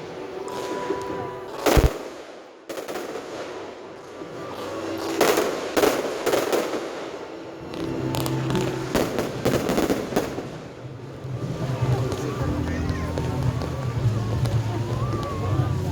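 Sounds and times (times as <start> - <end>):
fireworks crackling: 0.0 - 15.9
fireworks booming: 0.4 - 15.9.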